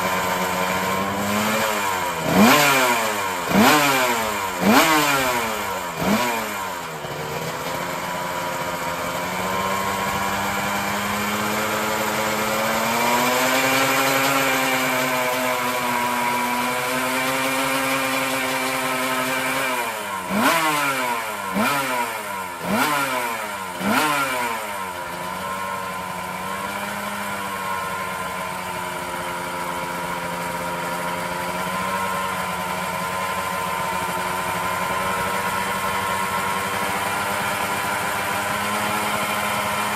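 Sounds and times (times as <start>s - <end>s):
engine throttle blips: 0.0s - 39.9s
motorcycle engine idling: 0.0s - 39.9s.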